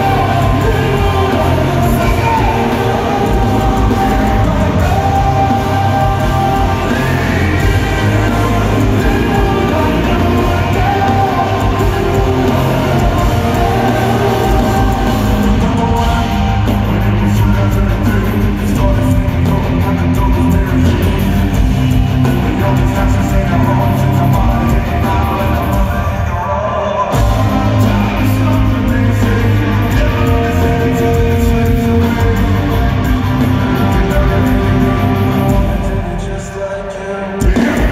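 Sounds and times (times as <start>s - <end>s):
drums: 0.0s - 37.9s
electric guitars: 0.0s - 37.9s.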